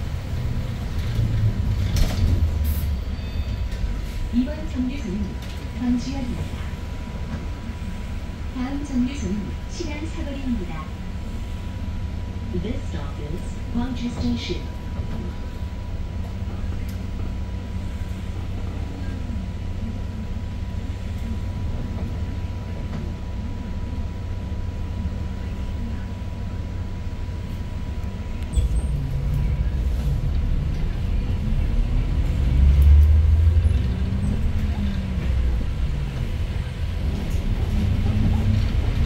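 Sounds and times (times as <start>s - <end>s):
bus engine idling and revving: 0.0s - 39.0s.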